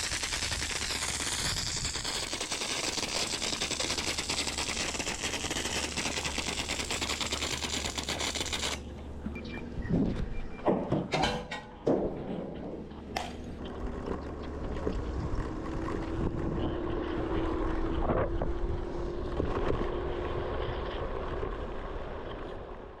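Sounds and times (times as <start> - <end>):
faint motor hum: 0.0 - 11.1, 11.7 - 22.9.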